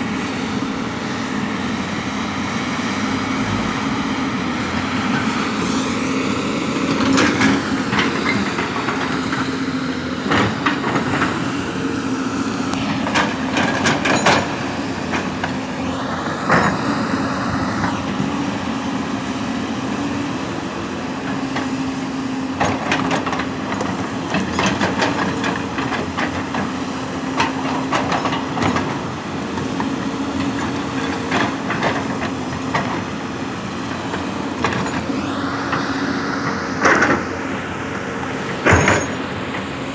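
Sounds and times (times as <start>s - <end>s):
diesel construction machine running: 0.0s - 39.9s.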